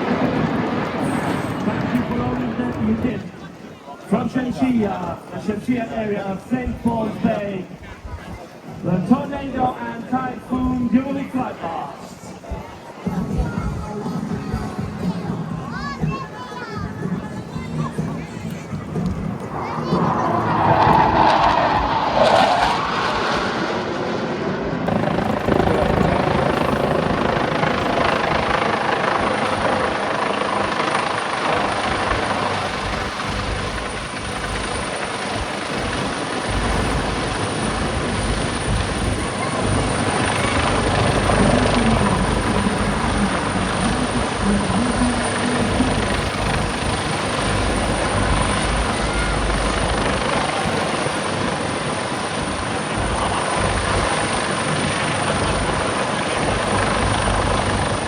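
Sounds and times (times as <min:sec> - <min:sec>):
aircraft flying over: 0:00.0 - 0:05.7, 0:09.7 - 0:58.0.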